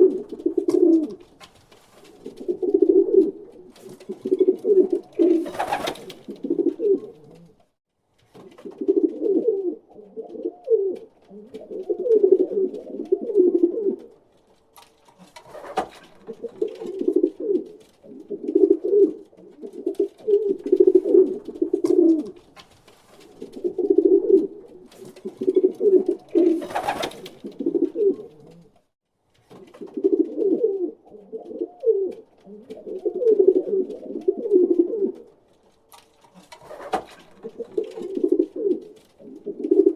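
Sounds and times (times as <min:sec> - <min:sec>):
pigeon cooing: 0:00.0 - 0:01.2, 0:02.2 - 0:07.6, 0:08.6 - 0:14.2, 0:15.6 - 0:22.4, 0:23.4 - 0:28.8, 0:29.8 - 0:35.3, 0:36.7 - 0:39.9.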